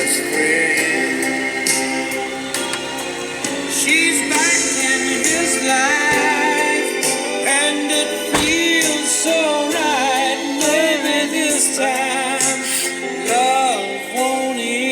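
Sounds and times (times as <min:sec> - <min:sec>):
pop song with male vocals: 0:00.0 - 0:14.9.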